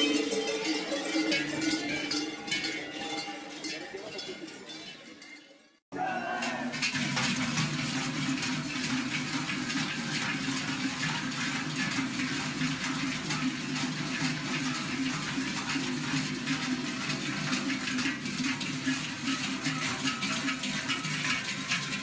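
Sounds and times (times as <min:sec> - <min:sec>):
cowbells and goat bells clanging: 0:00.0 - 0:05.8, 0:06.4 - 0:22.0.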